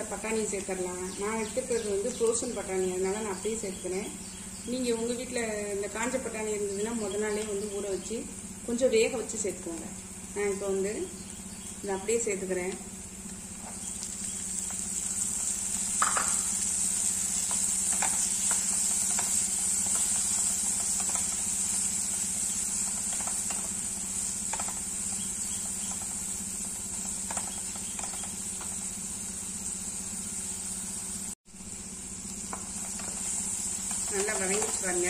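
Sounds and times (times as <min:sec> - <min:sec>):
peas sizzling in hot oil: 0:00.0 - 0:35.0.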